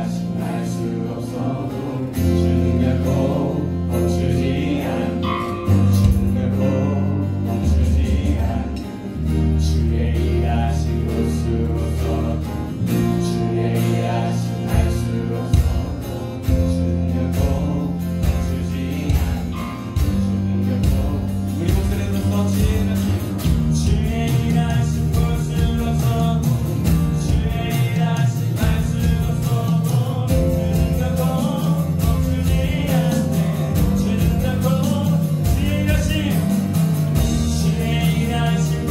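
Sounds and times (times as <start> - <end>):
person singing: 0.0 - 16.4, 17.0 - 38.9
acoustic guitar: 0.0 - 38.9
bass guitar: 0.0 - 38.9
keyboard: 0.0 - 38.9.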